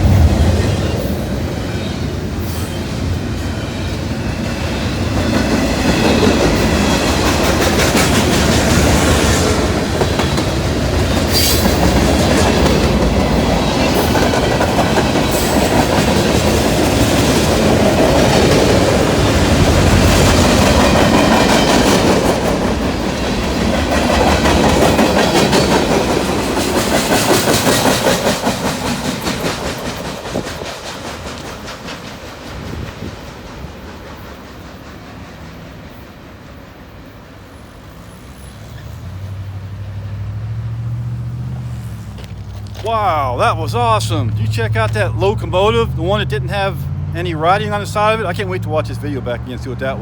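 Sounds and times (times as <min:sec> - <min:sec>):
freight train rumbling past: 0:00.0 - 0:50.0
wheels clicking over rail joints: 0:03.2 - 0:36.8, 0:38.7 - 0:49.5.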